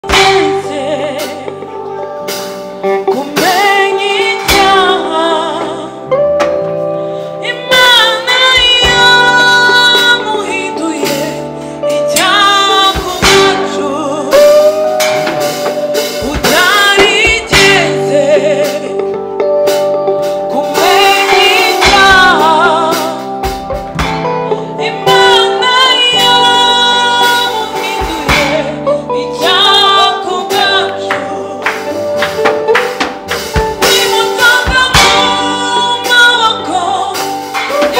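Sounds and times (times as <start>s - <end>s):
gospel band playing: 0.0s - 37.9s.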